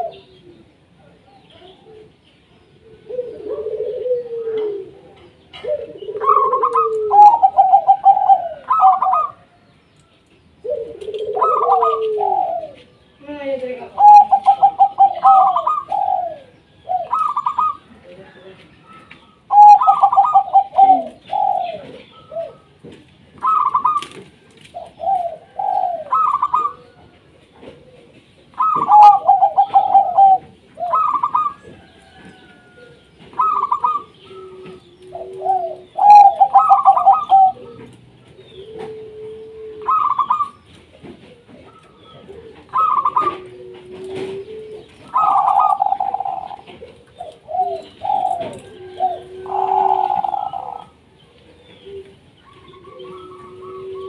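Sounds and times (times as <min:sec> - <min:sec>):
dove cooing: 0:00.0 - 0:09.6, 0:10.6 - 0:54.0.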